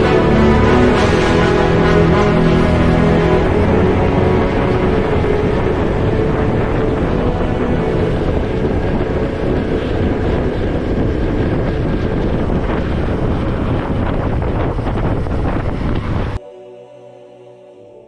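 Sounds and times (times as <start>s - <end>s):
wind buffeting microphone: 0.0s - 16.4s.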